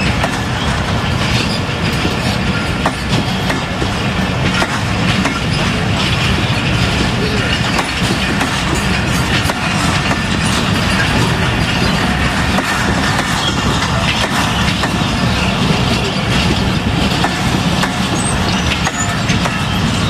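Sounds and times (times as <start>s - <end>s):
train rumbling on rails: 0.0s - 20.0s
wheels clicking and clanking: 0.0s - 20.0s.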